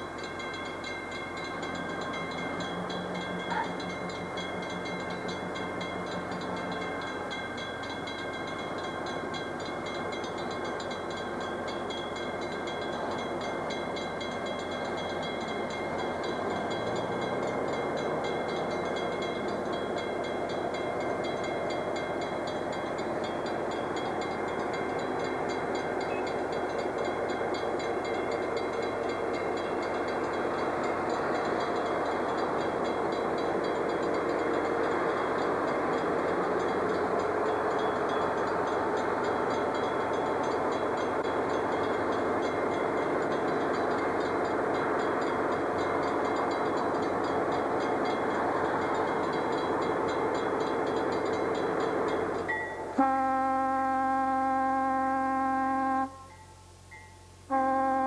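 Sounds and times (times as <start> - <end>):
crossing signal bell ringing: 0.0 - 58.0
diesel locomotive rumbling: 0.0 - 58.0.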